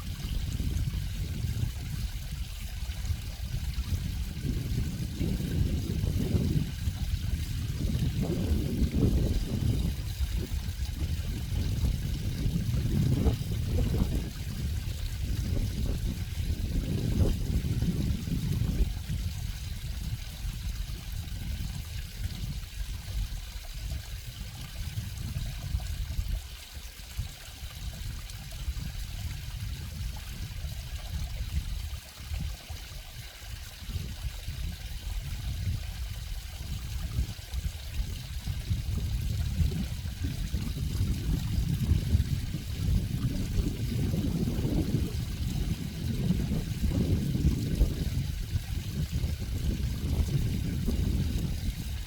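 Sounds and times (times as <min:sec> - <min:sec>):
water trickling and flowing: 0:00.0 - 0:52.0.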